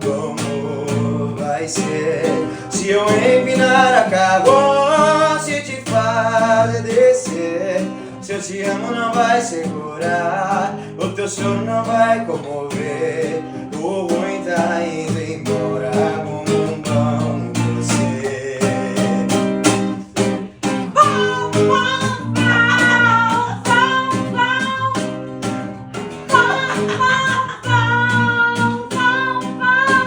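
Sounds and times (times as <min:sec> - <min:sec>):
person singing: 0:00.0 - 0:20.2, 0:20.8 - 0:30.0
strummed acoustic guitar: 0:00.0 - 0:30.0.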